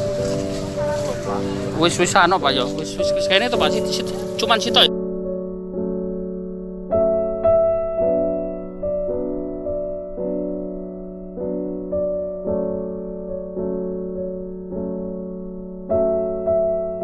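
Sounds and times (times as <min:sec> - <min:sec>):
soft keyboard chords: 0:00.0 - 0:17.0.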